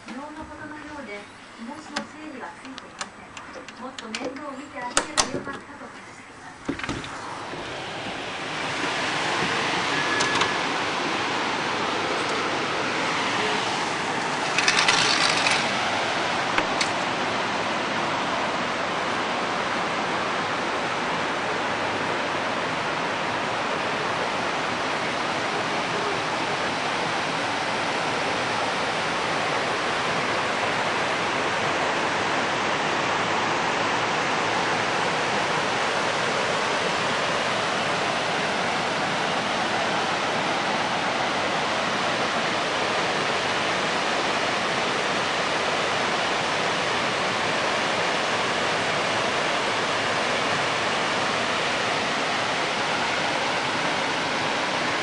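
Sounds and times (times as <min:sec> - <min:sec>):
river rapids rushing: 0:07.1 - 0:55.0.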